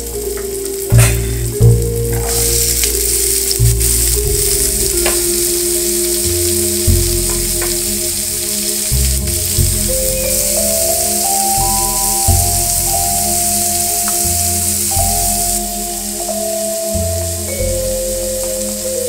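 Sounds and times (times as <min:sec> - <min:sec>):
oil sizzling in a frying pan: 0:00.0 - 0:19.0.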